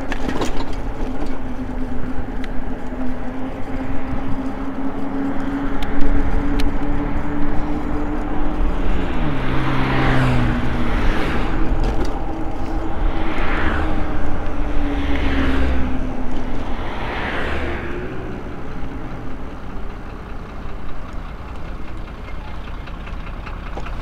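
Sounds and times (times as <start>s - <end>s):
wind rumble on microphone: 0.0s - 21.0s
vehicles passing: 0.0s - 24.0s.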